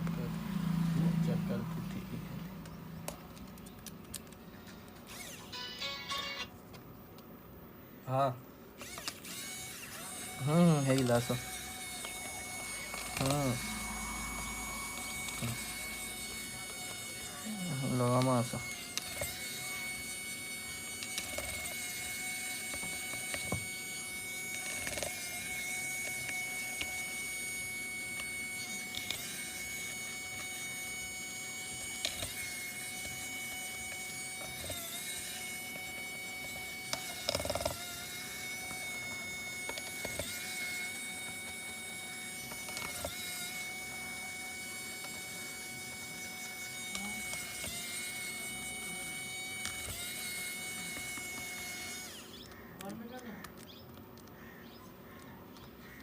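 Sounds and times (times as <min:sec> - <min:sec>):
small electric machine whining: 0:00.0 - 0:03.4, 0:04.6 - 0:06.6, 0:08.1 - 0:56.0.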